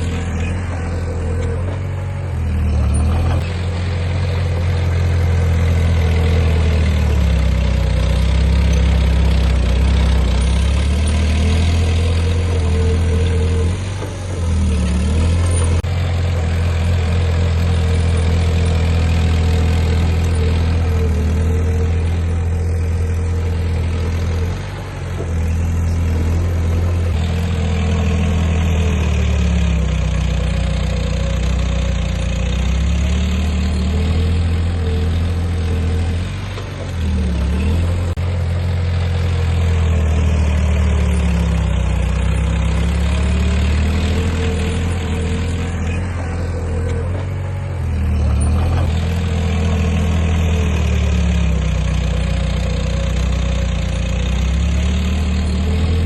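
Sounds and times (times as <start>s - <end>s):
heavy diesel engine rumbling: 0.0s - 56.0s.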